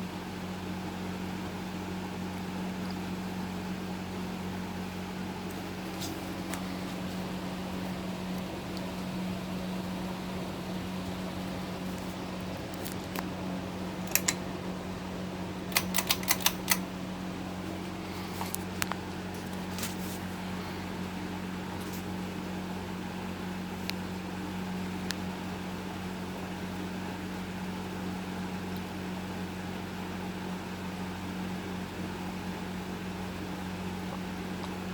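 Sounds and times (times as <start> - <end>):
ceiling fan running: 0.0 - 34.9.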